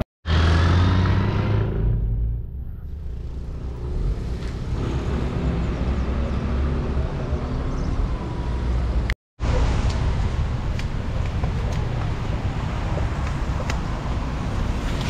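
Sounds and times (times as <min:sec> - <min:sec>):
street rumble: 0:00.0 - 0:15.0.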